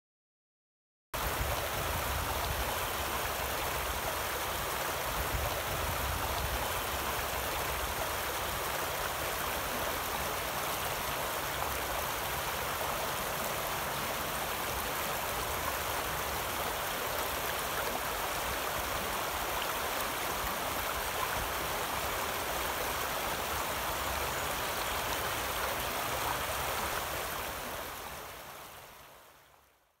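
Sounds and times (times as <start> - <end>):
creek water babbling over rocks: 1.2 - 29.8.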